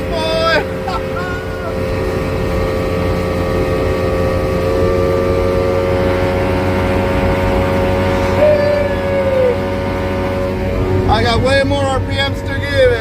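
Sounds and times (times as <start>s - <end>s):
motorboat engine running: 0.0s - 13.0s
water wash: 0.0s - 13.0s.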